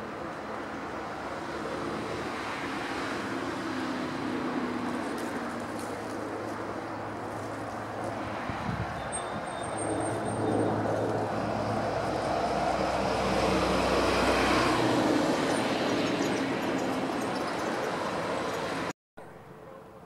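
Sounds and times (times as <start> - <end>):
passing motor traffic rumble: 0.0 - 19.8
road noise: 0.0 - 20.0.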